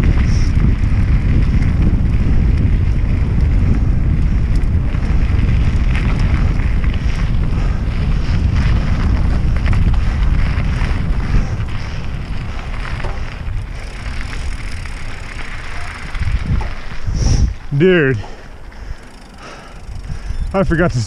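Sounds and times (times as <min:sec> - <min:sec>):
bike tyres rolling on dirt: 0:00.0 - 0:21.0
wind rumbling on microphone: 0:00.0 - 0:21.0.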